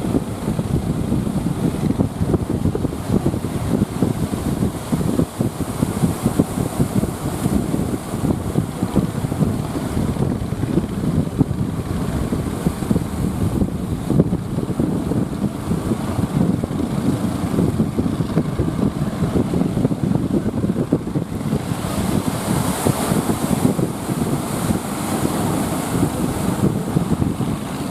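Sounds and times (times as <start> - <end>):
surf: 0.0 - 27.9
wind buffeting the microphone: 0.0 - 27.9.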